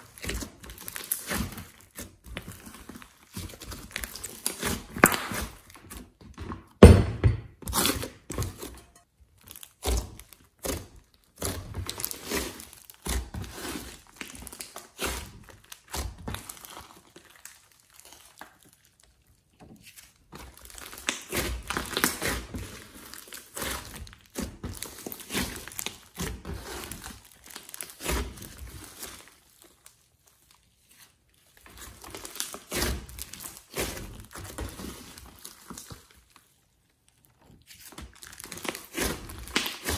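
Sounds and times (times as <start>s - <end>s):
slime crackling and tearing: 0.0s - 6.2s, 7.7s - 39.9s
hands squishing thick slime: 0.0s - 39.9s.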